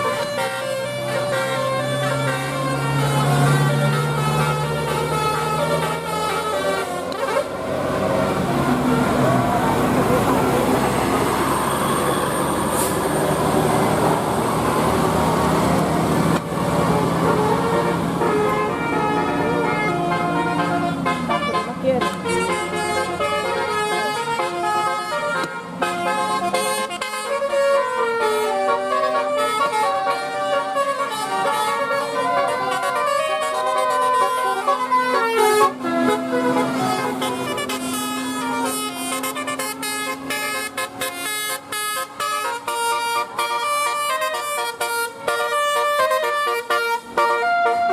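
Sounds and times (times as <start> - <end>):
bus engine running: 0.0 - 47.9
road rumble: 0.0 - 47.9.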